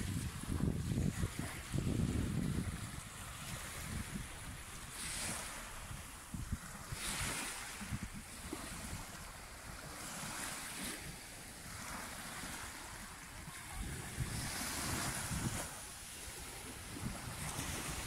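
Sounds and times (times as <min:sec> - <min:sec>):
small waves washing on beach: 0:00.0 - 0:18.0
wind buffeting microphone: 0:00.0 - 0:18.0.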